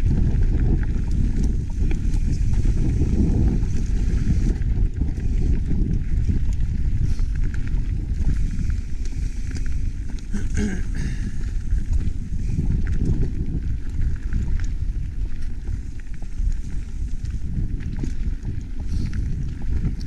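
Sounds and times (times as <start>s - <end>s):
bike frame and chain rattling: 0.0s - 20.0s
wind buffeting microphone: 0.0s - 20.0s.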